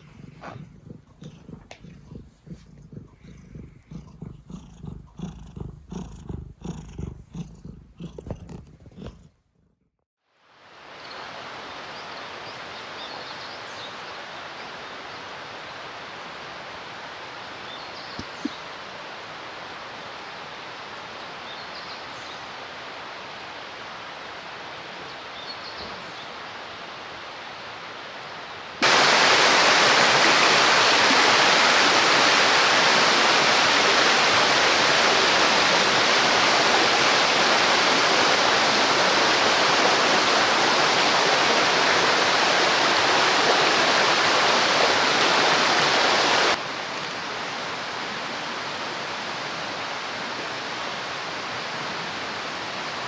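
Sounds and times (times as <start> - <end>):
loud rush of water: 10.4 - 53.0.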